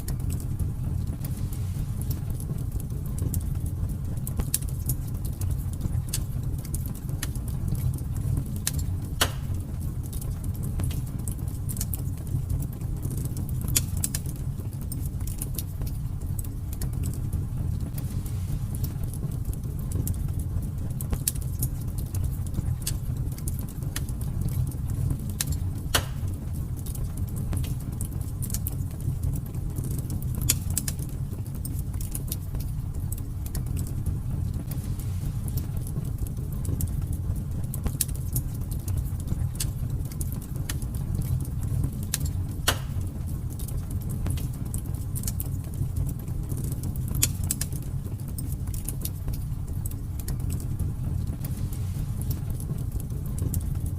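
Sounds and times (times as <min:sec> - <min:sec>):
fire burning in a fireplace: 0:00.0 - 0:53.9
fire crackling and popping: 0:00.0 - 0:53.9.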